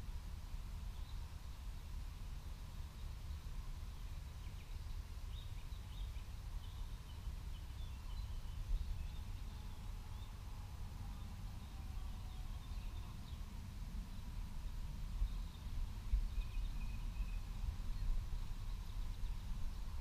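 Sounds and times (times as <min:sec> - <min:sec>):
wind rumble on microphone: 0:00.0 - 0:20.0
faint bird chirps: 0:02.8 - 0:14.4, 0:15.1 - 0:20.0.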